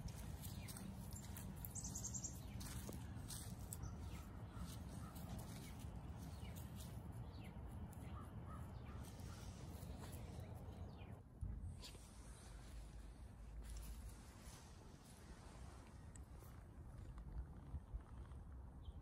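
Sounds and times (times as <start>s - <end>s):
birds calling faintly: 0.0s - 17.4s
low outdoor rumble: 0.0s - 19.0s.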